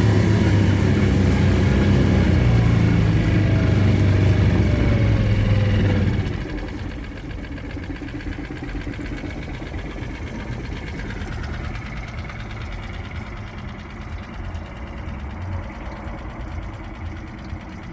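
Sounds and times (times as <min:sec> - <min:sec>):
outboard motor idling: 0:00.0 - 0:17.9.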